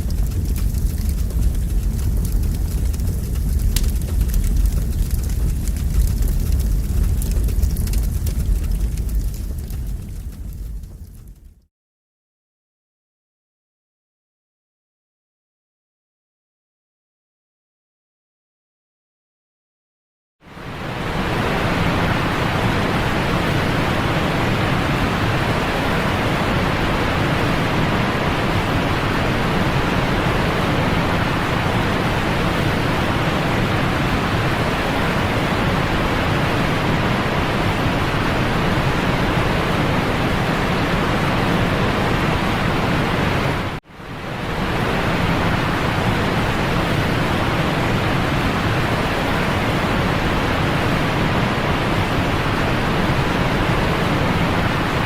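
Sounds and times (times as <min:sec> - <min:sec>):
rushing water roar: 0:00.0 - 0:11.2, 0:20.4 - 0:55.0.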